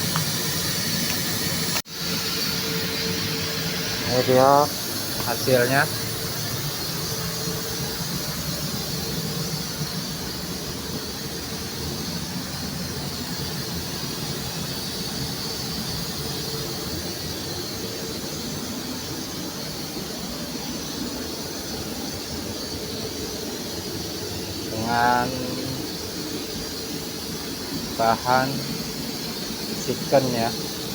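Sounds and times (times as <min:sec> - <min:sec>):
faint high whine: 0:00.0 - 0:13.3, 0:14.1 - 0:30.9
mechanical hiss and hum: 0:00.0 - 0:30.9.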